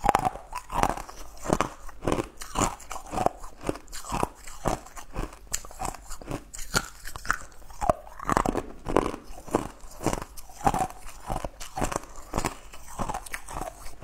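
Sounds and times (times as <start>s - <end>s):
crunchy candy chewing: 0.0s - 14.0s.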